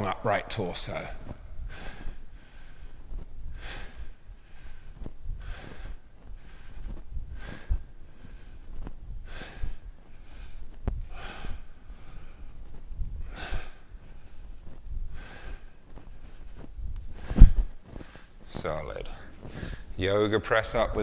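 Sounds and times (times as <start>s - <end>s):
man breathing heavily: 1.0s - 20.0s.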